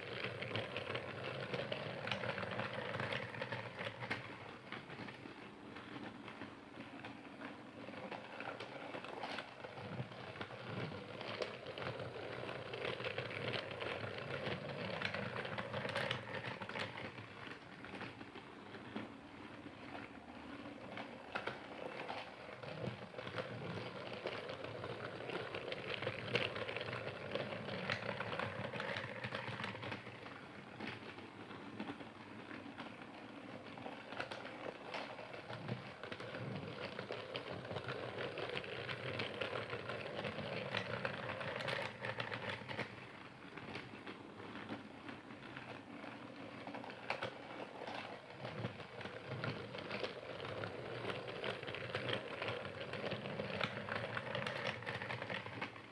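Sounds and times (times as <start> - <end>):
toy train motor whirring: 0.0 - 5.2, 7.7 - 32.0, 32.6 - 55.9
wheels and gears clicking: 0.0 - 55.9.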